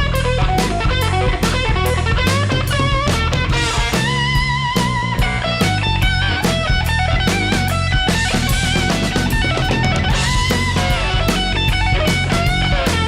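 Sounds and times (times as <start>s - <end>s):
bass guitar: 0.0s - 13.0s
drum kit beat: 0.0s - 13.0s
electric guitar lead: 0.0s - 13.0s.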